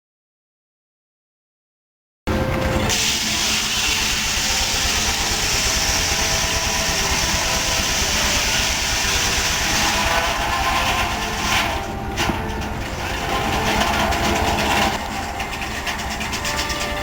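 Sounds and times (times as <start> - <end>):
sawmill running: 2.3 - 17.0.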